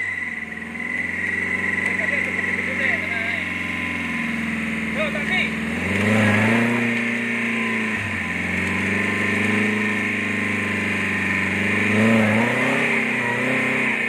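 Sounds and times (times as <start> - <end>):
jeep engine under load: 0.0 - 14.0.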